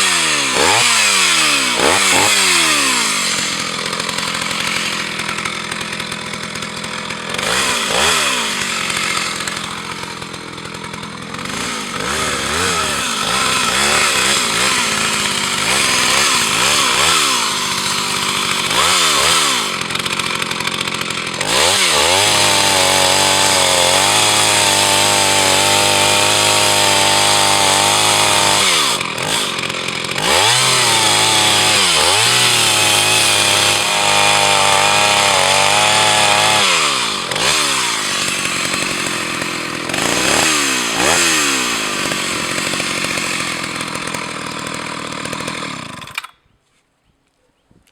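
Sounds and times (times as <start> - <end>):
chainsaw engine revving: 0.0 - 46.4.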